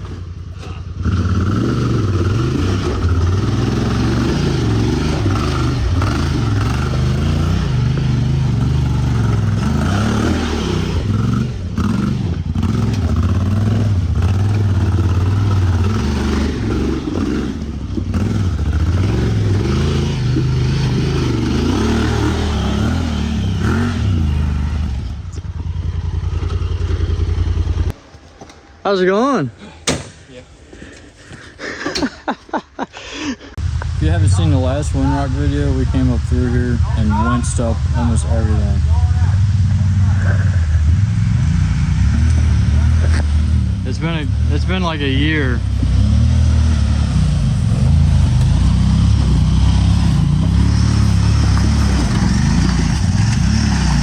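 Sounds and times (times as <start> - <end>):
off-road vehicle engine revving: 0.0 - 28.0, 33.6 - 54.0.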